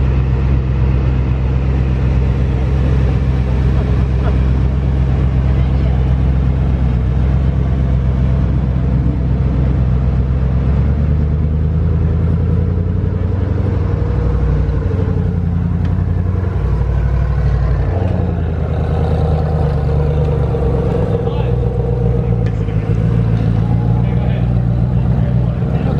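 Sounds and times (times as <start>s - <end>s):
car engine droning: 0.0s - 25.9s.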